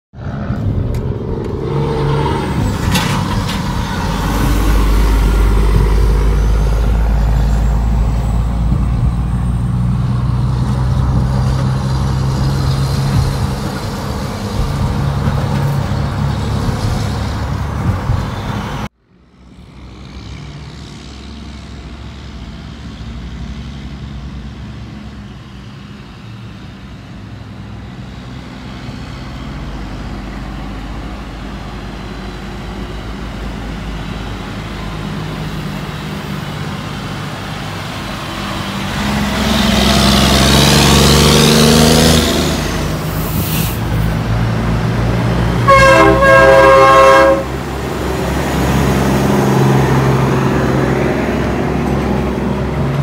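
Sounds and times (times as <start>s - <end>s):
road and wind noise: 0.1s - 53.0s
truck diesel engines rumbling: 0.1s - 53.0s.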